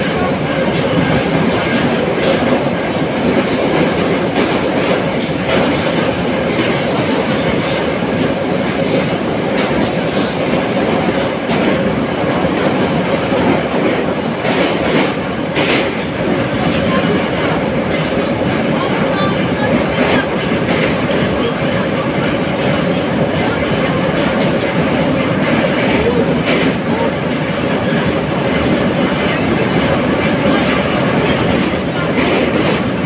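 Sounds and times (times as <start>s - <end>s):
rail joint clicks: 0.0s - 33.0s
train wheels rumbling on rail: 0.0s - 33.0s.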